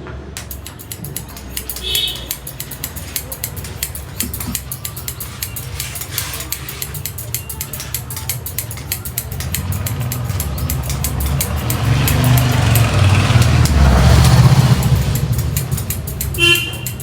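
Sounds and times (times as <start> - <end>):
rapid clicking: 0.4 - 17.0
vehicle engine passing: 0.8 - 17.0.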